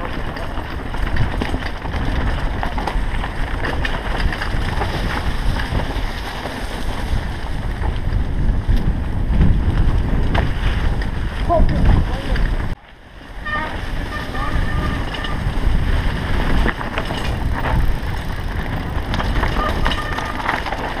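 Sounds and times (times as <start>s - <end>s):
bike rattling and knocking: 0.0s - 21.0s
bike tyres on dirt and leaves: 0.0s - 21.0s
wind rumble on microphone: 0.0s - 21.0s.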